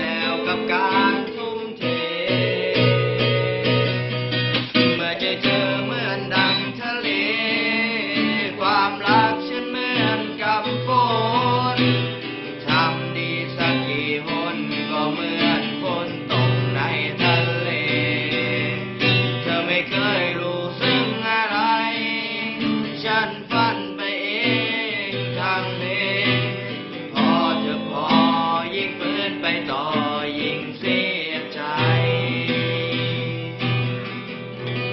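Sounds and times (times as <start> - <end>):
guitar-led instrumental music: 0.0 - 34.9.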